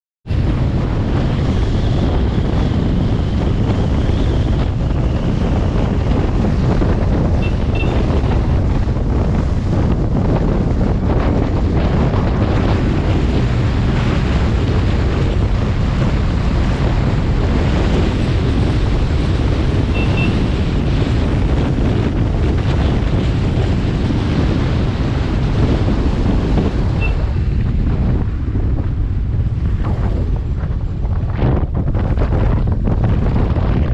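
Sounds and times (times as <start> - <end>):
wind buffeting microphone: 0.2 - 33.9.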